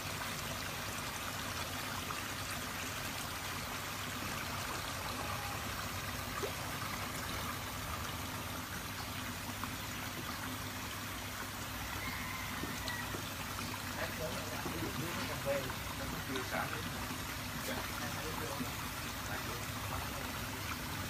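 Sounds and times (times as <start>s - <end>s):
water trickling into a pond: 0.0s - 21.0s.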